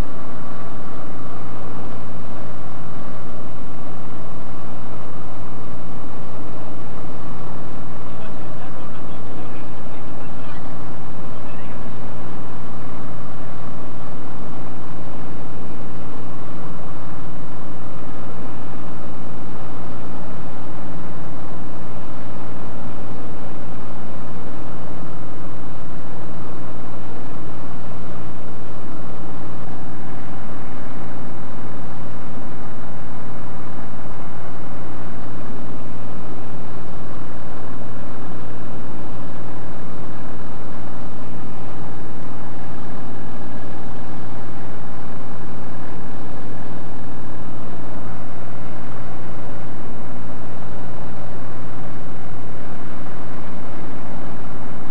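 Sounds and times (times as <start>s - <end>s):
light aircraft engine and propeller: 0.0s - 51.0s.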